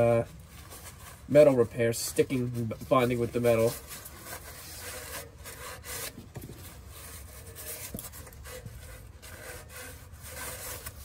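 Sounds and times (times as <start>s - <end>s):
paper towel scratchy wiping: 0.0s - 11.0s.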